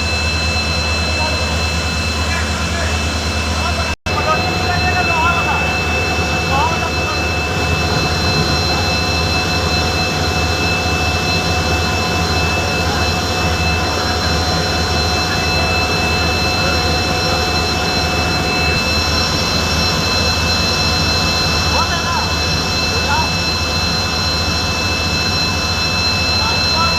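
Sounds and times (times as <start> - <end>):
locomotive engine droning: 0.0 - 26.9.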